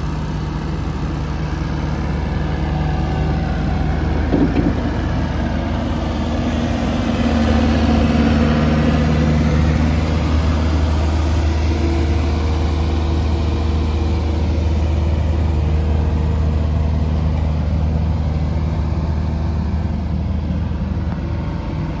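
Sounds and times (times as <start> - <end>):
excavator diesel engine idling: 0.0 - 22.0.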